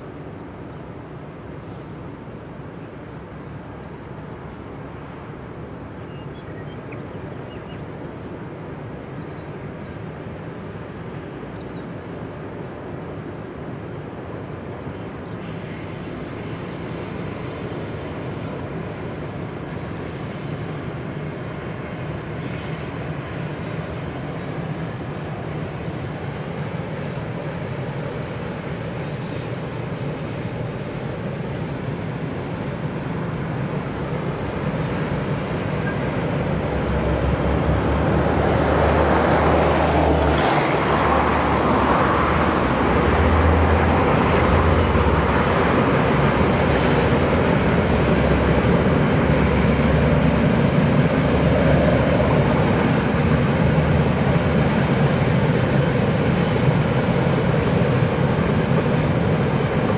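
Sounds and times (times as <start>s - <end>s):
diesel locomotive engine: 0.0s - 59.9s.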